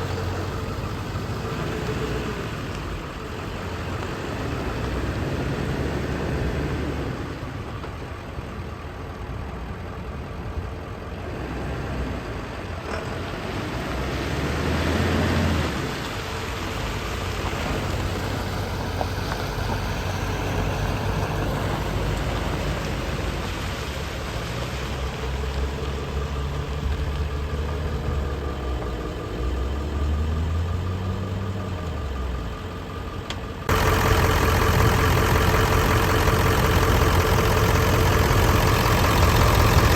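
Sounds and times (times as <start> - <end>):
diesel engine revving: 0.0 - 8.4, 11.1 - 39.9.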